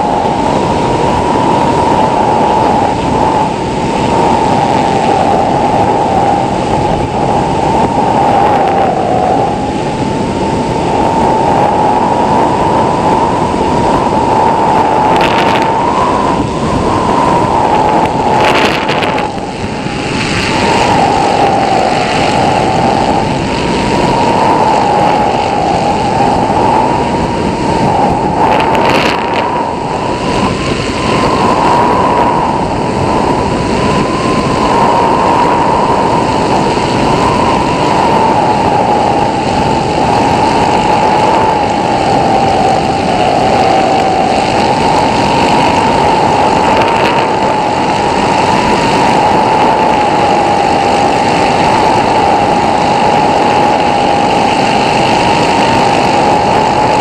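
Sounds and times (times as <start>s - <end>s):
rushing airflow: 0.0s - 57.0s.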